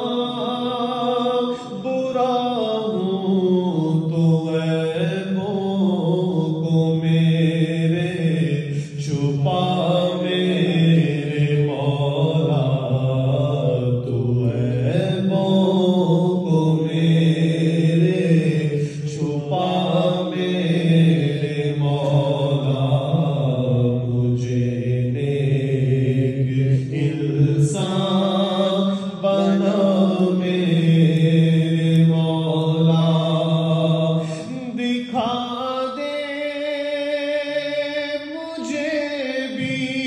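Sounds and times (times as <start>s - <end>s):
man chanting into a microphone: 0.0s - 40.0s.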